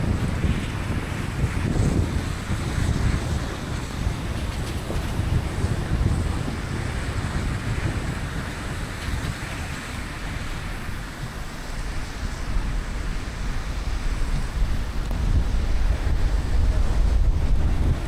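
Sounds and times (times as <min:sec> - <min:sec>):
tyres hissing on wet road: 0:00.0 - 0:18.0
wind buffeting microphone: 0:00.0 - 0:18.0.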